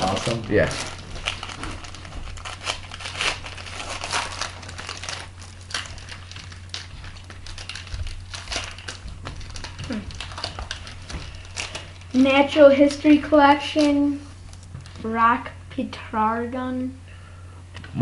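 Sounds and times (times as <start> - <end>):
card wrappers crinkling: 0.0 - 15.1
steady low hum: 0.0 - 18.0.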